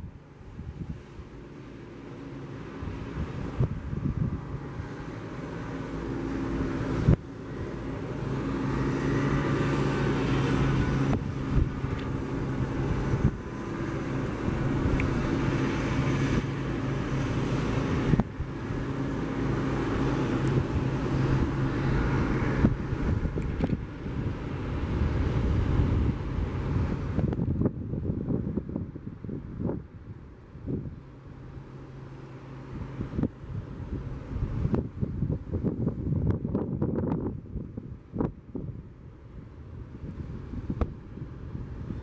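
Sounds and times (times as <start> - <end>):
engine running steadily: 0.0 - 42.0
wind noise on microphone: 0.0 - 42.0.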